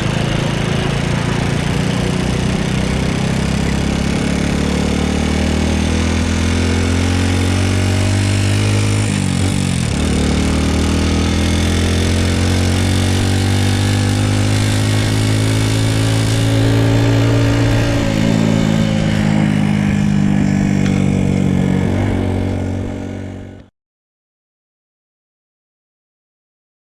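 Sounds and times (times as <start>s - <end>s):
motorcycle engine running: 0.0s - 23.7s.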